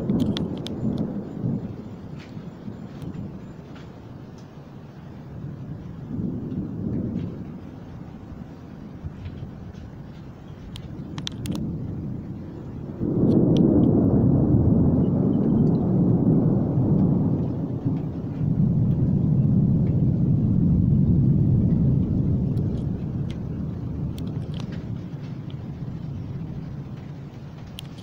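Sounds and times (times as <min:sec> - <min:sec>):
thunder rumble: 0:00.0 - 0:28.0.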